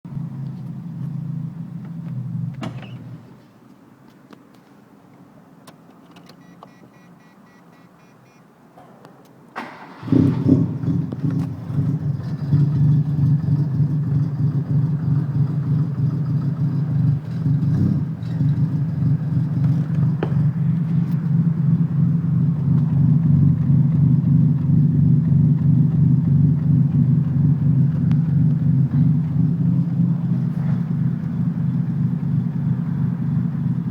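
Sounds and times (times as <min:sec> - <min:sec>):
car engine idling: 0:00.1 - 0:03.8, 0:09.5 - 0:33.9.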